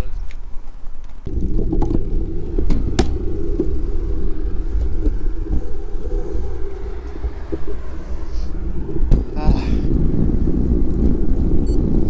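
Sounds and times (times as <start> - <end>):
road rumble: 0.0 - 12.0
wind buffeting: 0.0 - 12.0.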